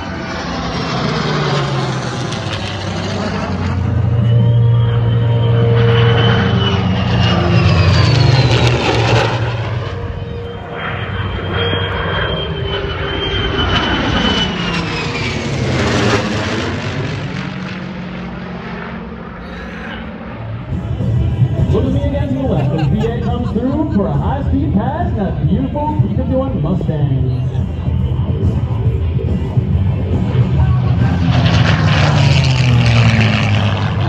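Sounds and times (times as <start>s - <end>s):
jet engine whine: 0.0s - 34.0s
piston engine drone: 0.0s - 34.0s.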